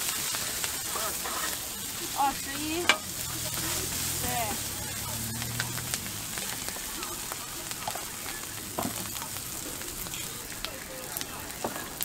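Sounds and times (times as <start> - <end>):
rice sizzling on griddle: 0.0 - 12.0.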